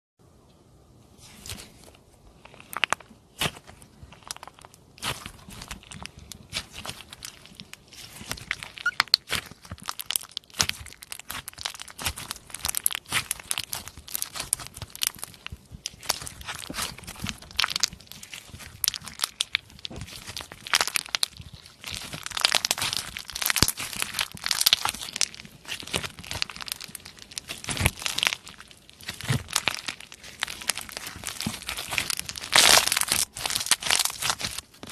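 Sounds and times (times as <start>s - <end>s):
slime crackling and popping: 2.4s - 34.9s.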